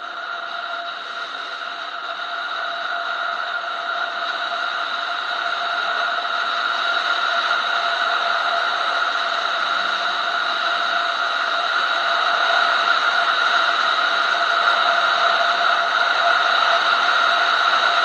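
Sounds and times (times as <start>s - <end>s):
constant hum: 0.0s - 18.0s.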